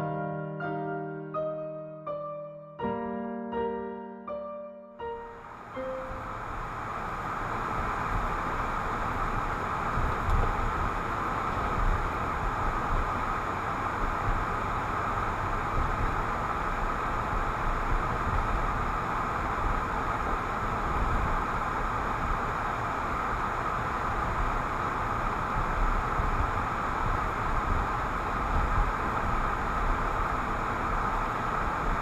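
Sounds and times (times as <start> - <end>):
tyre and road hiss: 5.3 - 32.0
low car rumble: 5.5 - 32.0.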